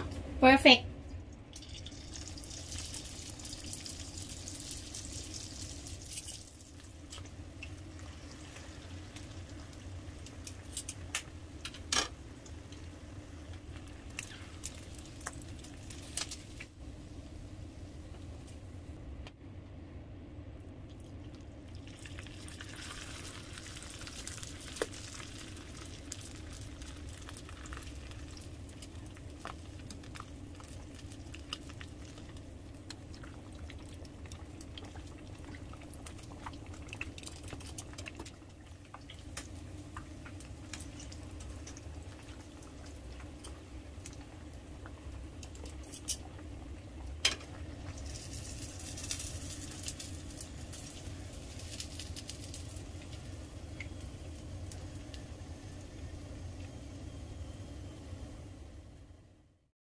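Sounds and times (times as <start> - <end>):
pork sizzling in hot oil: 1.5 - 16.8, 21.6 - 57.1.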